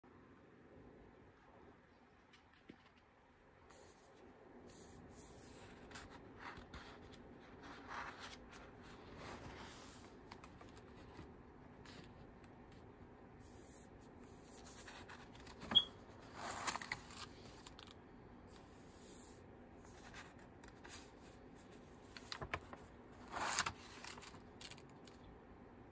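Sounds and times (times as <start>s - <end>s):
paper rustling: 3.7s - 12.9s, 13.5s - 25.2s.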